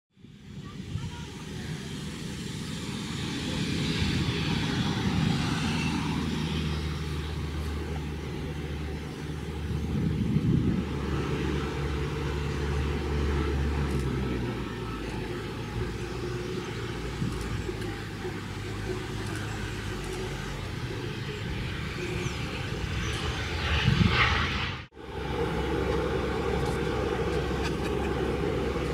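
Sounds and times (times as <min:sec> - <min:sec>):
jet engines droning: 0:00.2 - 0:28.9.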